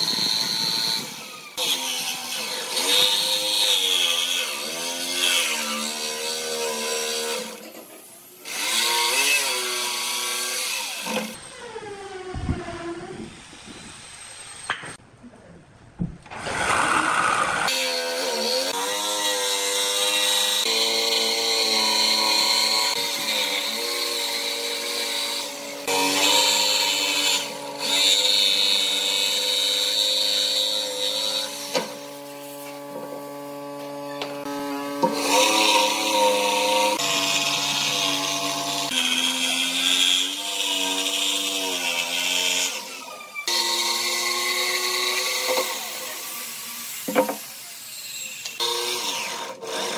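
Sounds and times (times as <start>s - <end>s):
electric jigsaw cutting wood: 0.0s - 14.8s, 16.3s - 49.9s.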